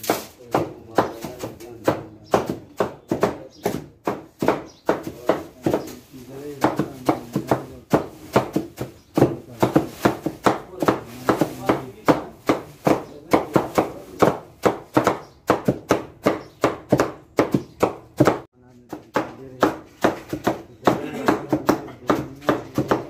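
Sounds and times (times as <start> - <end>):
cleavers chopping meat: 0.0 - 23.0.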